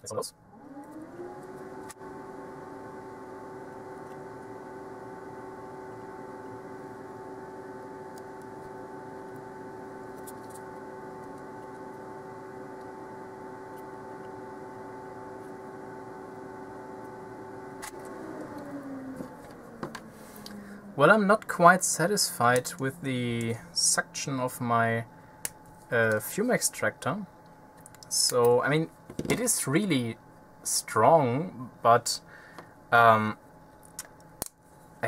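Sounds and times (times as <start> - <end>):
fan motor humming: 0.0 - 35.0.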